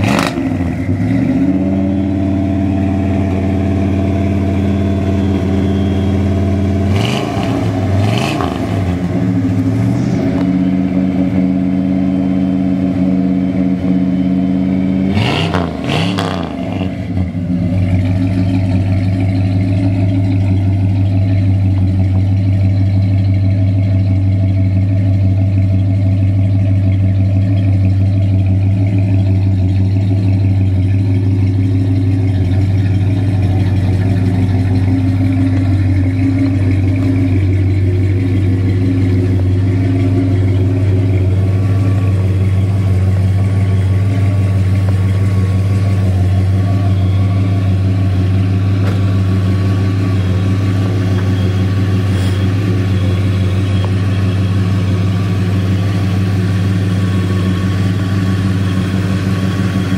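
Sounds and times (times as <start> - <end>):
car engine revving and idling: 0.0 - 59.9.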